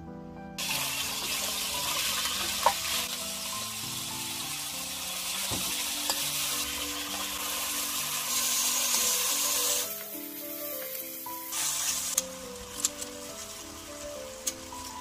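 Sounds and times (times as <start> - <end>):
food sizzling in a pan: 0.6 - 15.0.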